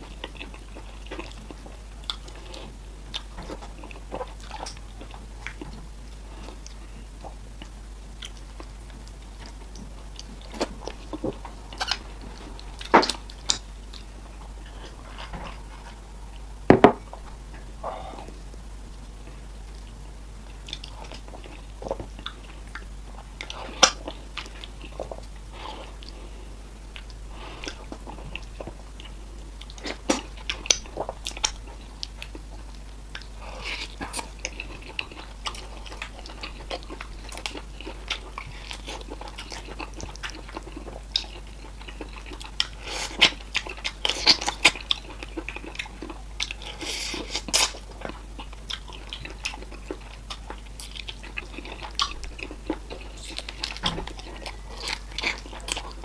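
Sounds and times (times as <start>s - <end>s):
chewing with wet mouth smacks: 0.0s - 16.0s, 20.5s - 26.2s, 26.9s - 56.0s.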